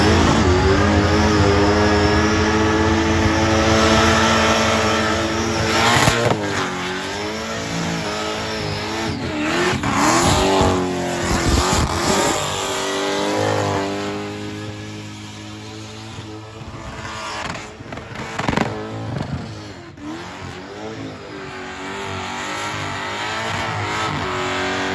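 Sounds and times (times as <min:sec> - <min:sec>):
engine revving hard: 0:00.0 - 0:24.9.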